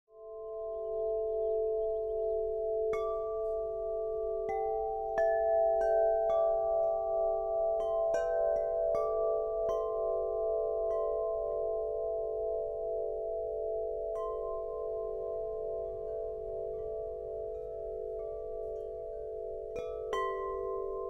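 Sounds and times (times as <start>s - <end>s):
wind chime ringing: 0.2s - 21.0s.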